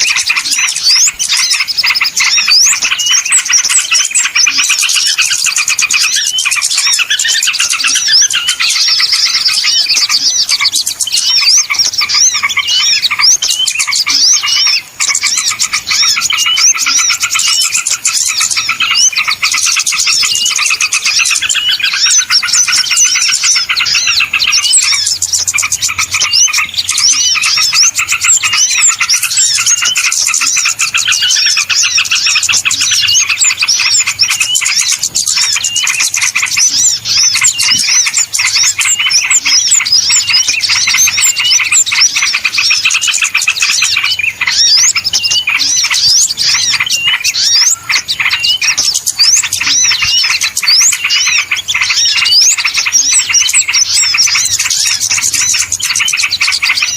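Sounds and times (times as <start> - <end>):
small birds chirping and twittering: 0.0 - 56.9.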